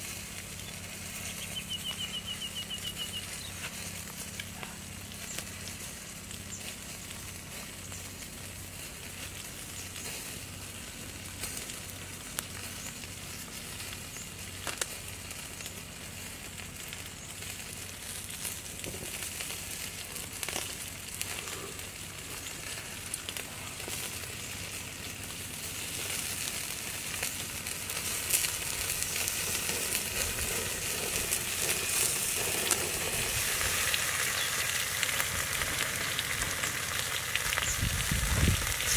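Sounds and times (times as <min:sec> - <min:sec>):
fish sizzling on hot stone: 0:00.0 - 0:38.9
wood fire crackling and popping: 0:00.0 - 0:38.9.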